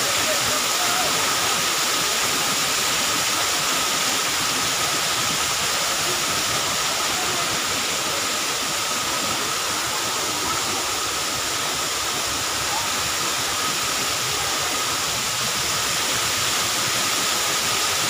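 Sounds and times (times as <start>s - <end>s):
waterfall pouring: 0.0s - 18.0s.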